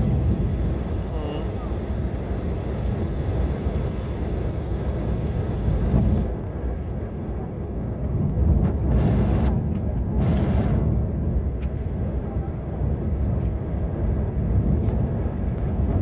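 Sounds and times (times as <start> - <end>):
jet engines rumbling: 0.0 - 16.0
rushing airflow: 0.0 - 16.0.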